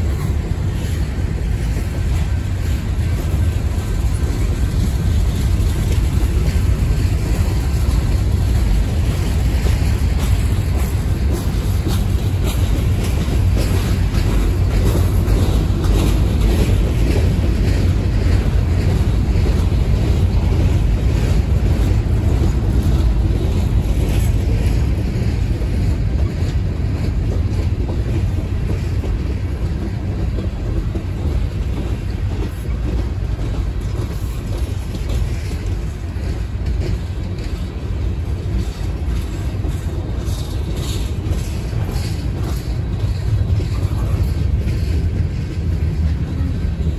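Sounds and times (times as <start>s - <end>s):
faint clicks of wheels: 0.0s - 46.9s
freight train wheels rumbling: 0.0s - 46.9s
wind on microphone: 0.0s - 46.9s.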